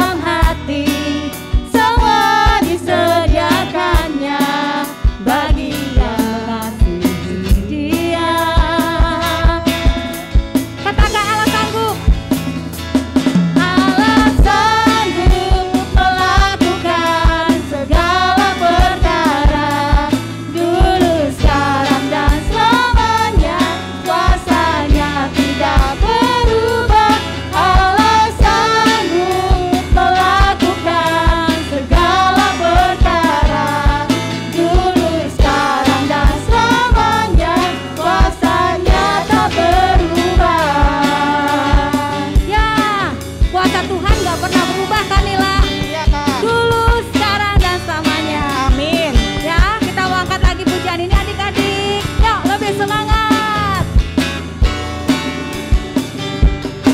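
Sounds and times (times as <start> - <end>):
voices singing: 0.0 - 11.8, 13.4 - 51.7
band with drum beat: 0.0 - 56.9.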